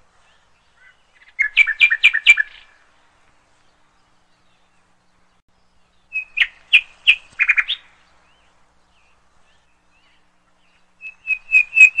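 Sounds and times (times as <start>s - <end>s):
small bird chirping: 0.2s - 2.9s, 3.5s - 12.0s.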